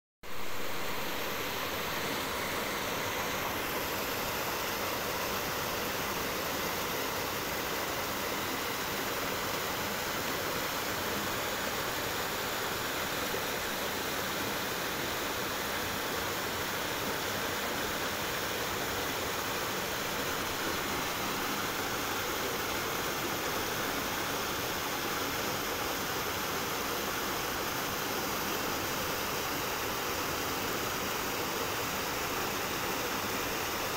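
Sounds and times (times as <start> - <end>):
mountain stream rushing over stones: 0.3 - 33.9.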